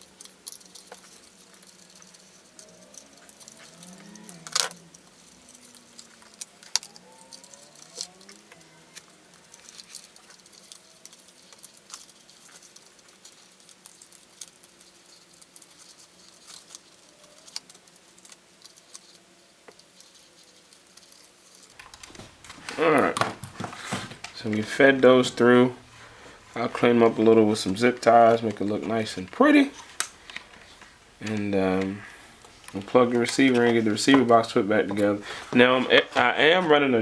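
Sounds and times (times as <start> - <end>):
small plastic and metal parts rattling: 0.0 - 37.0.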